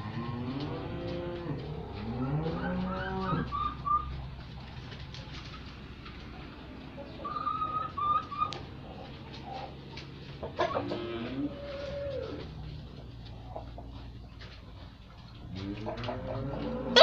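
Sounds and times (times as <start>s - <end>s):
chickens clucking and calling: 0.0s - 17.0s.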